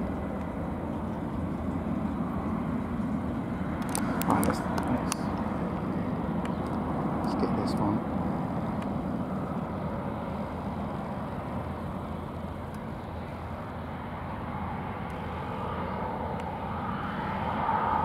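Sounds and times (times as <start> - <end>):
jet engines rumbling and whining: 0.0 - 18.0.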